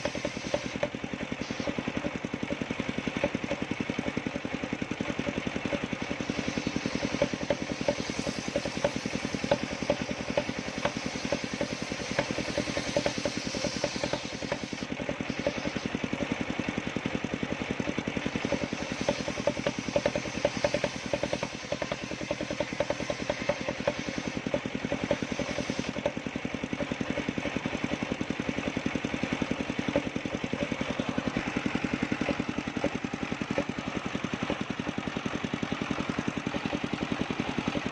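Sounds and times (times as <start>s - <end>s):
sawmill engine running: 0.0s - 37.9s.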